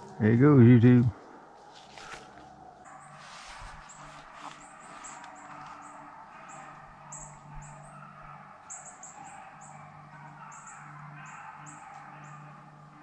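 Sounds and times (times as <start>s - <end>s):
small birds chirping: 2.0s - 13.0s.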